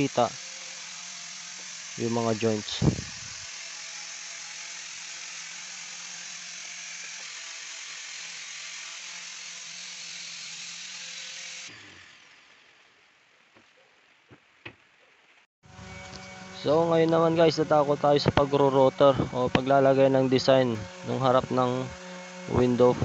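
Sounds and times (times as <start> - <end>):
electric sander whining: 0.0 - 12.7, 15.6 - 23.0.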